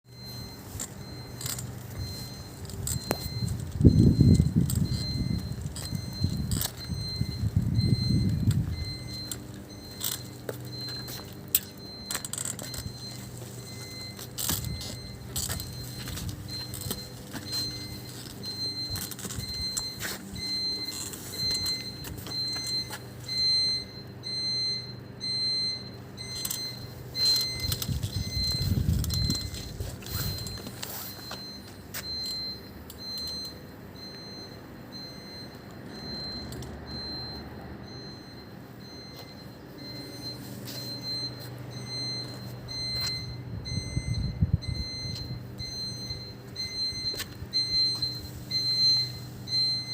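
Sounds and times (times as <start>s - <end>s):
generator low hum: 0.1s - 49.9s
high-pitched alarm beeping: 0.1s - 49.9s.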